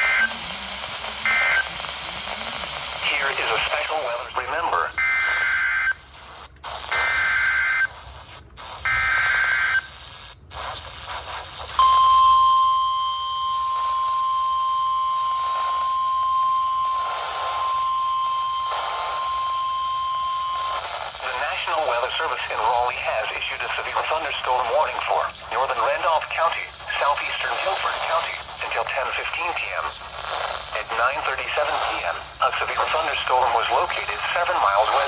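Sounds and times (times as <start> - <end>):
steady warning alarm tone: 0.0 - 4.4, 5.0 - 6.1, 6.9 - 8.0, 8.8 - 10.0, 11.8 - 35.0
radio static hiss: 0.0 - 12.0, 13.5 - 35.0.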